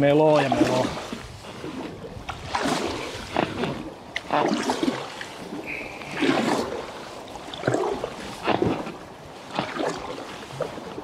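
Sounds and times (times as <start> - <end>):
paddle strokes splashing in water: 0.1 - 11.0.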